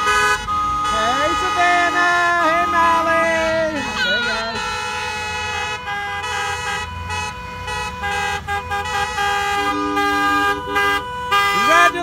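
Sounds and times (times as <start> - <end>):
traffic rumble: 0.0 - 12.0
vehicle horns honking: 0.0 - 12.0.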